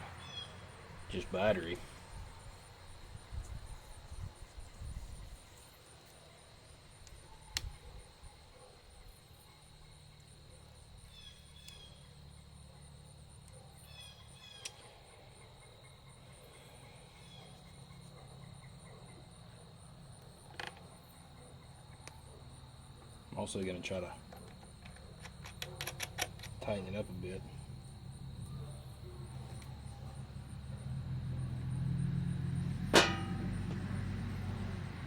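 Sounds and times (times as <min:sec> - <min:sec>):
insects trilling: 0:00.1 - 0:25.6, 0:26.5 - 0:32.8.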